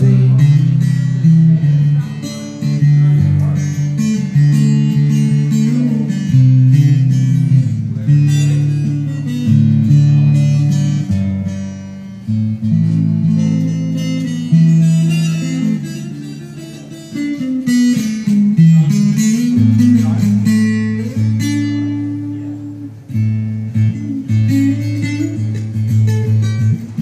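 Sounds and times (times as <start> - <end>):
electric guitar strumming chords: 0.0 - 27.0.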